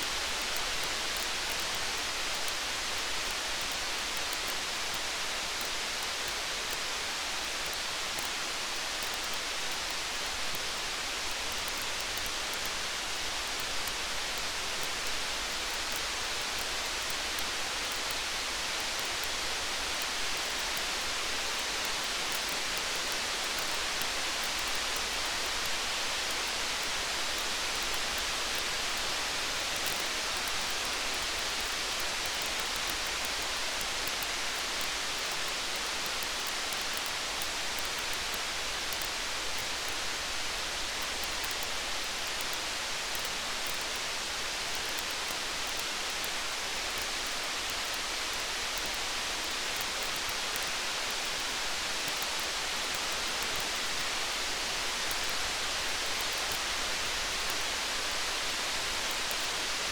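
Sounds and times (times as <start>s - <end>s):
hiss of rain: 0.0s - 59.9s.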